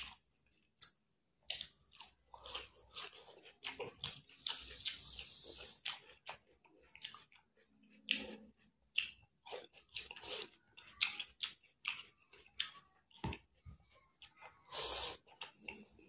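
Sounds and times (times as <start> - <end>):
person chewing with lip smacks: 0.0 - 16.0.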